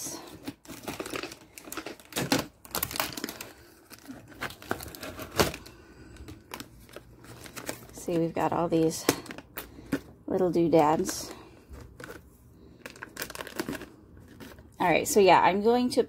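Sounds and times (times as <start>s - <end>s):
plastic wrap and tape crinkling: 0.0s - 14.9s.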